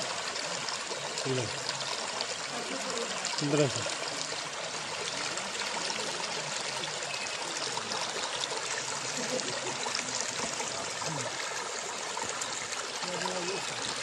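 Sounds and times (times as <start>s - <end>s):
stream splashing over rocks: 0.0s - 14.0s.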